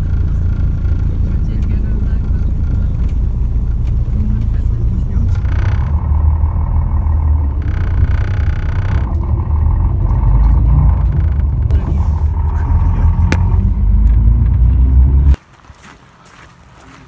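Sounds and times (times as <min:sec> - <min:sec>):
diesel railcar rumbling: 0:00.0 - 0:15.4
quiet outdoor sound: 0:00.0 - 0:17.0.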